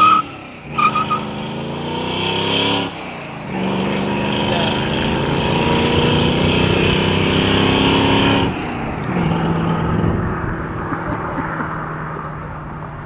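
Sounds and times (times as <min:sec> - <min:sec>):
pickup engine under throttle: 0:00.0 - 0:13.0.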